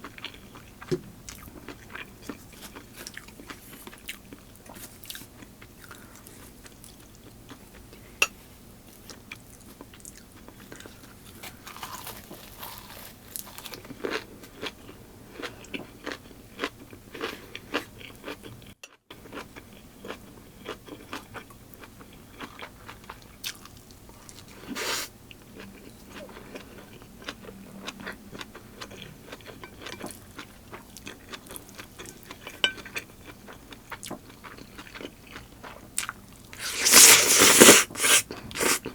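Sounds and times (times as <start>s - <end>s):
person chewing and crunching food: 0.0s - 8.1s, 8.9s - 38.9s.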